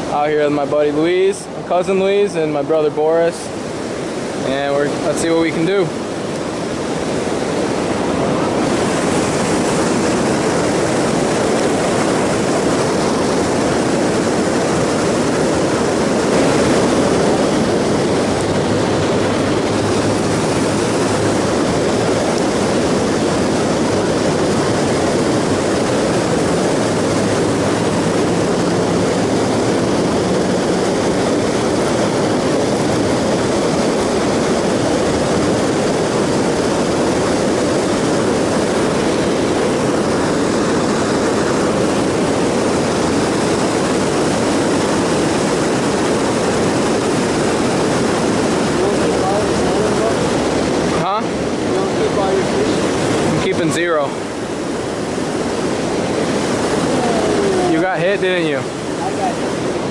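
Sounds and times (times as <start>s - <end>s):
whitewater rushing over a dam: 0.0s - 59.9s.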